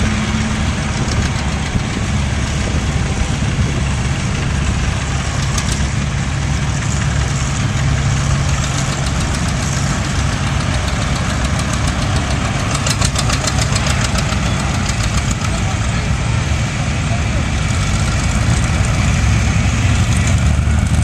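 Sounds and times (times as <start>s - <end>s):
tractor engines running: 0.0s - 21.0s.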